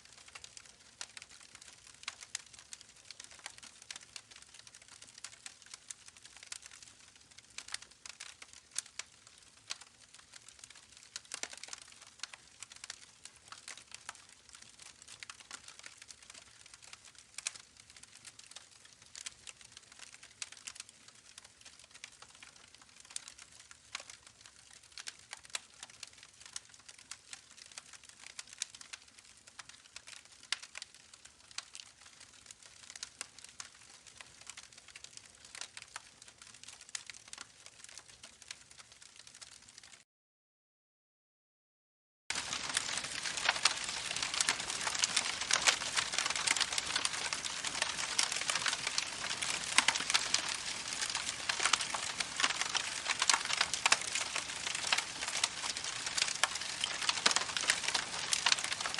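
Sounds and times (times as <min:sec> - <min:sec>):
campfire crackling: 0:00.0 - 0:40.0, 0:42.3 - 0:58.9.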